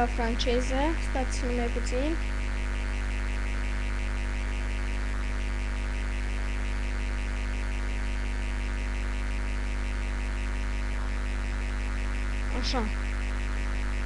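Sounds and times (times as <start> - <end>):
fine buzzing hiss: 0.0 - 14.0
low electrical hum: 0.0 - 14.0.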